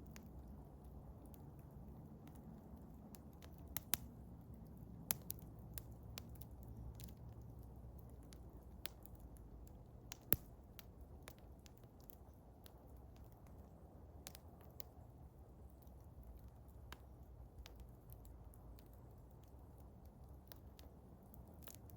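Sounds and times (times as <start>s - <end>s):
low steady rumble: 0.0s - 21.9s
wood fire crackling and popping: 0.0s - 21.9s.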